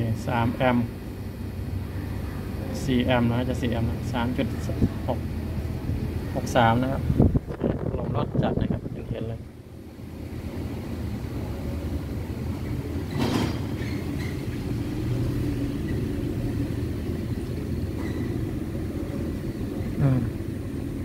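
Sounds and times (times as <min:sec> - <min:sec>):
air conditioner unit humming: 0:00.0 - 0:21.0.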